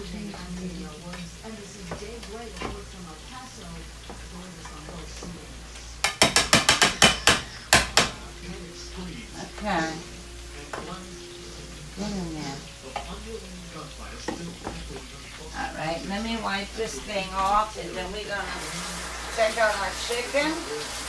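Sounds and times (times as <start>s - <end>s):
faint frying sizzle: 0.0s - 21.0s
metal tongs stirring greens: 0.0s - 21.0s.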